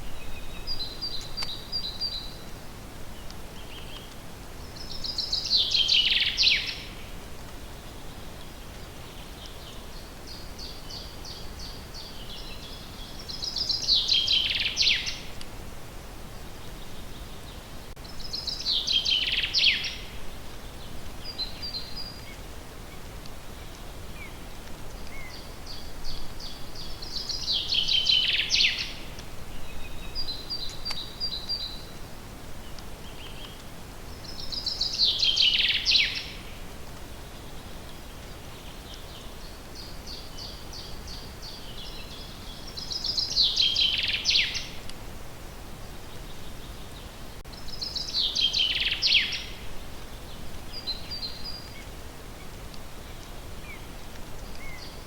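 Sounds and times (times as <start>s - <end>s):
songbird singing: 0.0s - 15.5s, 16.3s - 55.0s
low background hiss: 0.0s - 55.0s.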